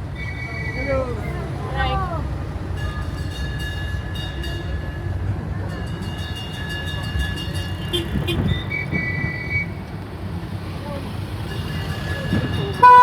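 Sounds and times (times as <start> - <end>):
engine and wheels rumbling: 0.0 - 13.0.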